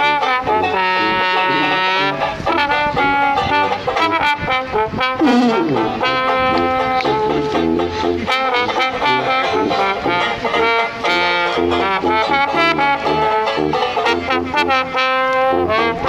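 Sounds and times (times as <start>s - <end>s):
plucked banjo: 0.0s - 16.0s
trombone melody: 0.0s - 16.0s
tuba bass notes: 0.0s - 16.0s.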